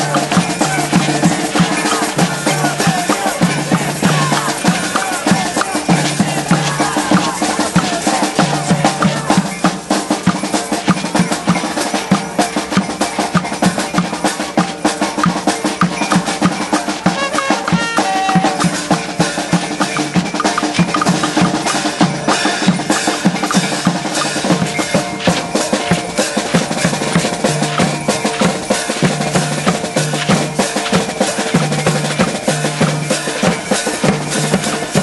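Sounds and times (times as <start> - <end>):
bass drum: 0.0 - 35.0
frame drum: 0.0 - 35.0
hand cymbals clashing: 0.0 - 35.0
snare drum: 0.0 - 35.0
wooden tone block: 0.0 - 35.0.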